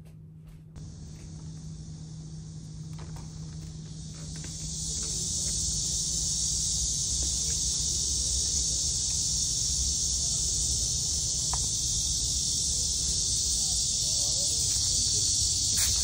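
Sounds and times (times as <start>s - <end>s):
insects chorus: 0.8s - 16.0s.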